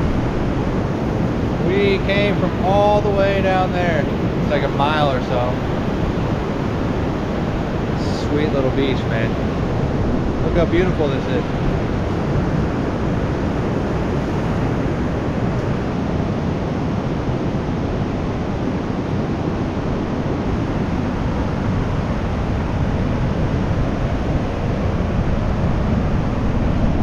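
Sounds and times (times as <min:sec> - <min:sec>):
surf washing on beach: 0:00.0 - 0:27.0
wind buffeting microphone: 0:00.0 - 0:27.0.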